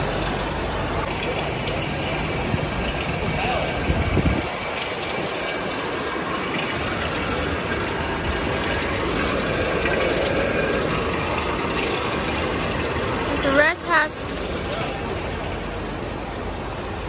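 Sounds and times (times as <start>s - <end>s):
rotating drum machine noise: 0.0s - 17.0s.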